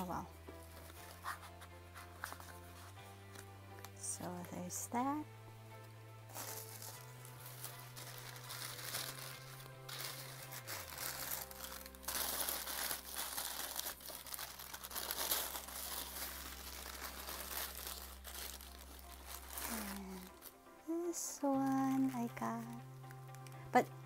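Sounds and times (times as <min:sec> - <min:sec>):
tissue paper rustling: 0:00.0 - 0:05.0, 0:06.2 - 0:23.5
soft background music: 0:00.0 - 0:24.0.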